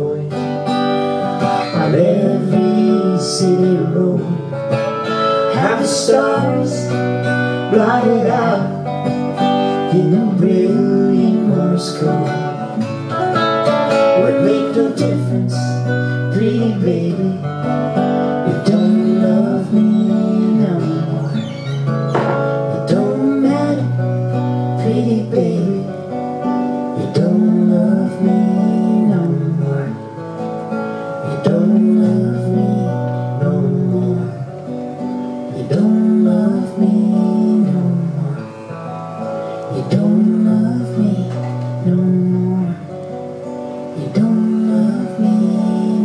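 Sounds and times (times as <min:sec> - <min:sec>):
live band guitars playing: 0:00.0 - 0:46.0.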